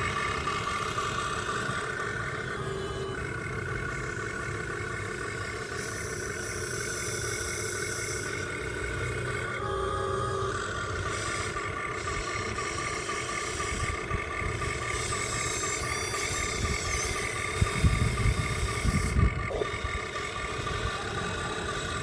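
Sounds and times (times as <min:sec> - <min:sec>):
low engine-like rumble: 0:00.0 - 0:22.0
radio-controlled truck whine: 0:00.0 - 0:22.0.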